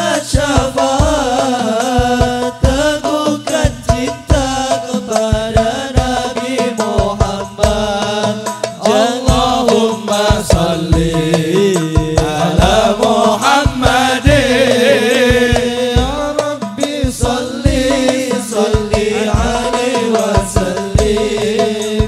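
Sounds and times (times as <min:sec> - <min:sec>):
low drum beats: 0:00.0 - 0:22.0
men singing over pa: 0:00.0 - 0:22.0.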